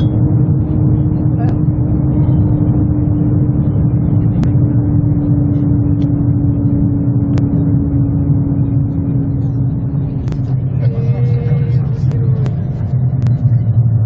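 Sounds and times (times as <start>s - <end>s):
hum: 0.0s - 14.0s
train cabin rumble: 0.0s - 14.0s.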